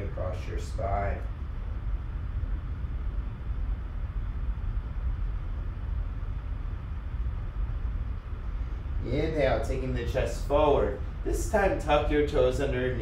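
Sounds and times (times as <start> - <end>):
faint hiss: 0.0 - 13.0
low rumbling background noise: 0.0 - 13.0.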